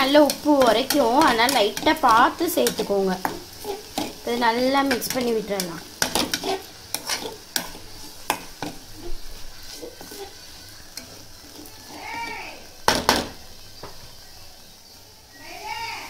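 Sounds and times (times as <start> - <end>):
metal spoon scraping a pan: 0.0 - 13.4
faint sizzle: 0.0 - 16.0.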